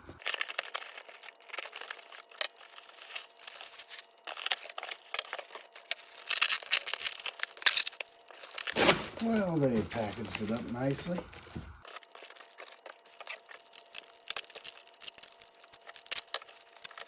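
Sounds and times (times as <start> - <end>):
packaging crinkling and rustling: 0.1 - 17.0.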